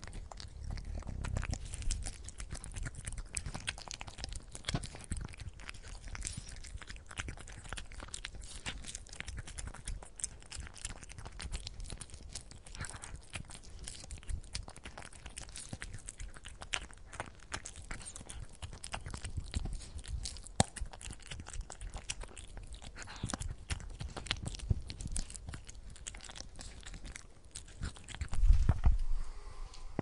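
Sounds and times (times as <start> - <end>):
cat chewing food: 0.0 - 29.2.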